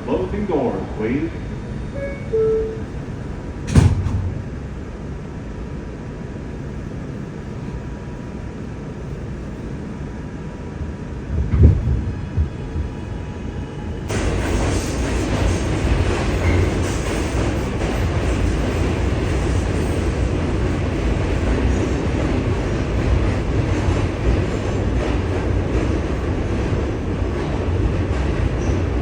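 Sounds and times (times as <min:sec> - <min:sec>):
subway train rumble: 0:00.0 - 0:29.0.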